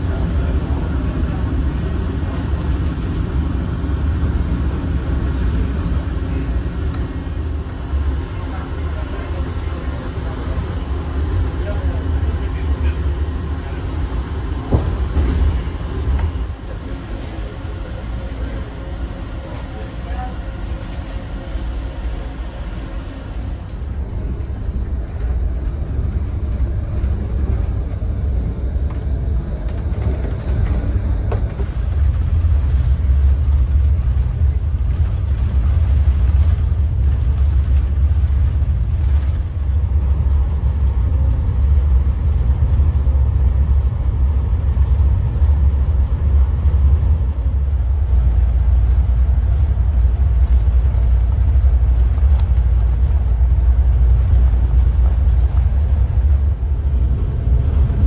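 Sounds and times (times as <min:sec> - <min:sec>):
train rumbling inside car: 0:00.0 - 0:58.0.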